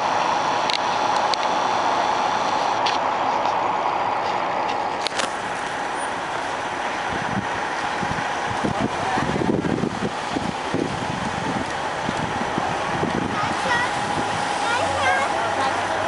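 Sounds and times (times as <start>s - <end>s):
bus engine running: 0.0s - 16.0s
road traffic: 0.0s - 16.0s.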